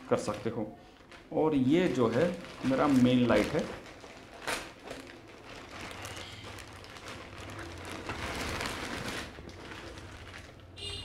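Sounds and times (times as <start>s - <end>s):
plastic wrapping crinkling: 0.1s - 11.0s.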